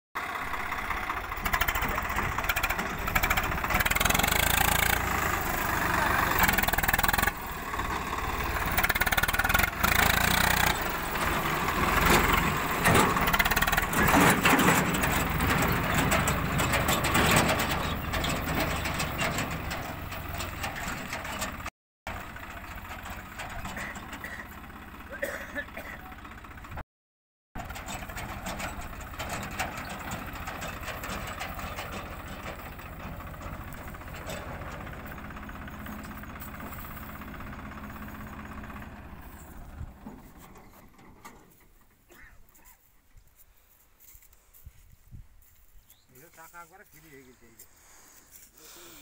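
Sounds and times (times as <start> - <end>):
tractor diesel engine running hard: 0.2 - 26.8, 27.6 - 41.9.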